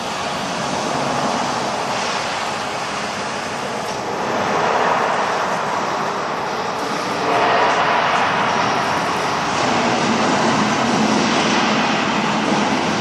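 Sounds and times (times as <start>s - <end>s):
plate bending machine running: 0.0s - 13.0s.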